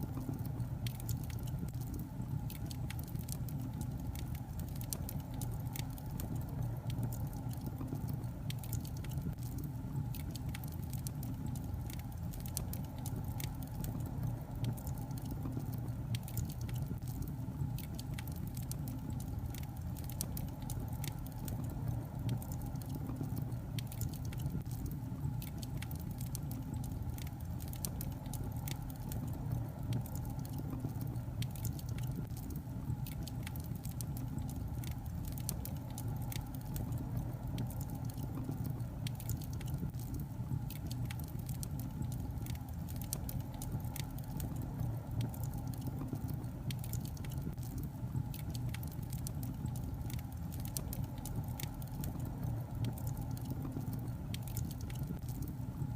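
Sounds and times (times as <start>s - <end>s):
logs crackling and popping: 0.0s - 55.9s
low rumble of flame: 0.0s - 55.9s.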